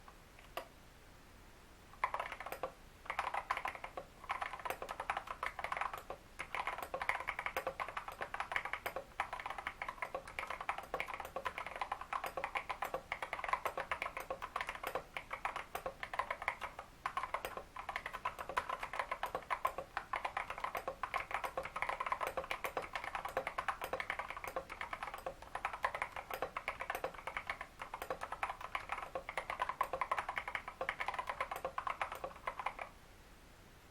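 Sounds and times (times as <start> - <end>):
fast typing on mechanical keyboard: 2.0 - 32.9.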